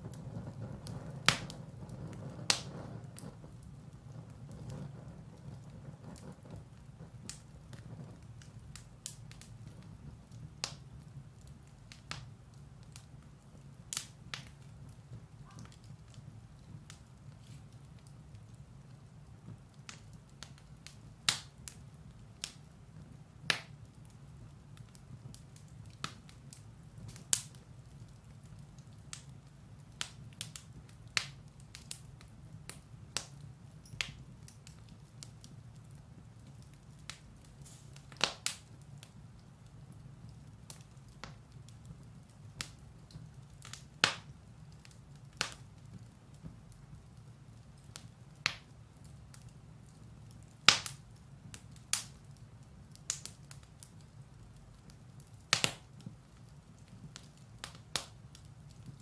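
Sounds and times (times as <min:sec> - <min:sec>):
fire low rumble: 0:00.0 - 0:59.0
firewood crackling and popping: 0:00.0 - 0:59.0.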